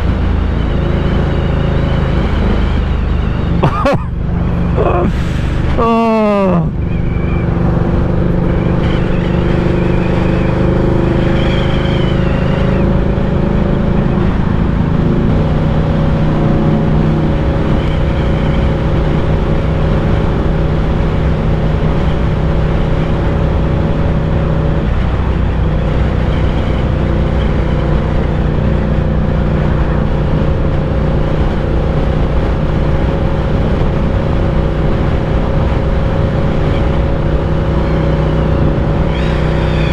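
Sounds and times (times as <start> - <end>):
motorcycle engine cruising: 6.7 - 39.9.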